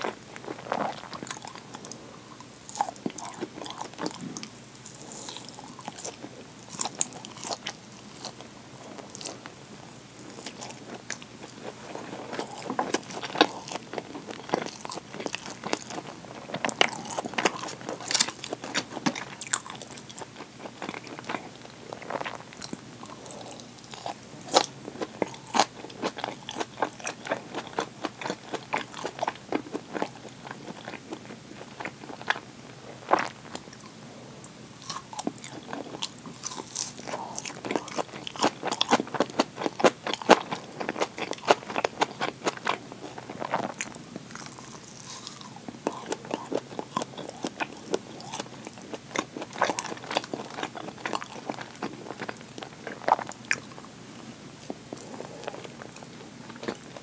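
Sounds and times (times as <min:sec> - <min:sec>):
biting and chewing: 0:00.0 - 0:34.0, 0:34.8 - 0:57.0.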